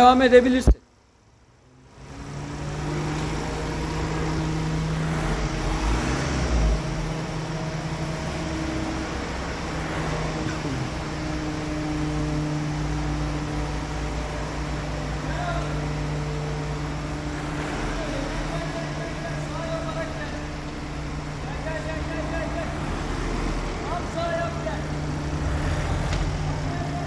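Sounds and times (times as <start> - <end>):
van engine idling: 0.0 - 27.0.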